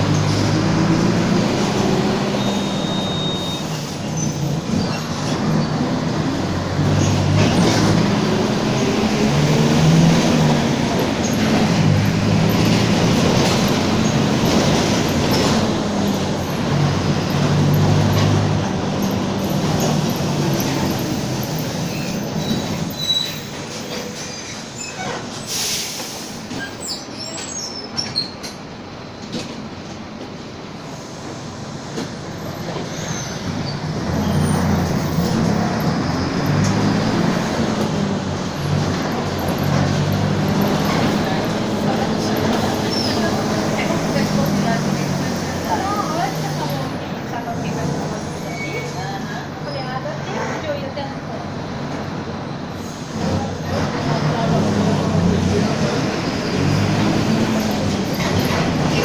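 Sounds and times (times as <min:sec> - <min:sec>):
bus body rattling: 0:00.0 - 0:59.0.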